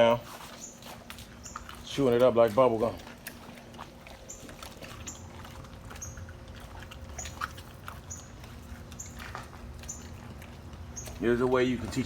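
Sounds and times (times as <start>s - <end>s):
dog chewing wetly: 0.0s - 12.0s.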